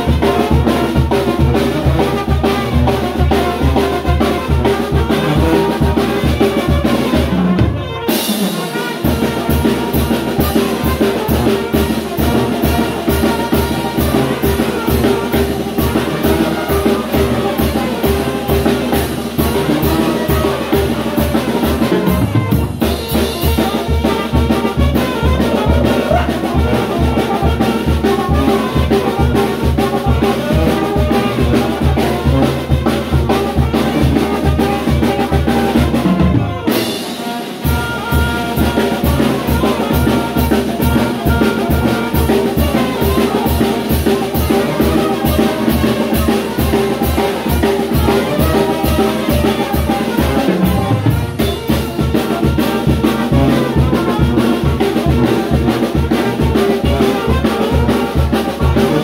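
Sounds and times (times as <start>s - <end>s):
brass band music: 0.0s - 59.0s
steady drum beat: 0.0s - 59.0s.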